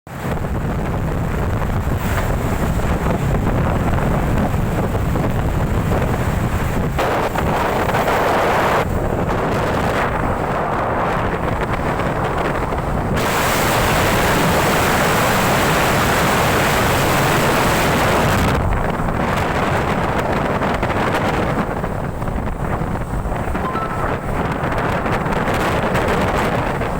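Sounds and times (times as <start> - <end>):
wind buffeting microphone: 0.1 - 26.9.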